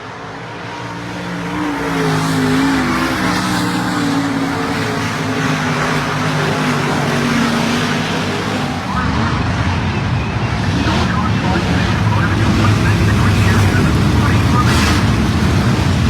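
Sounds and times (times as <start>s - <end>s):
race car engines at speed: 0.0s - 16.0s.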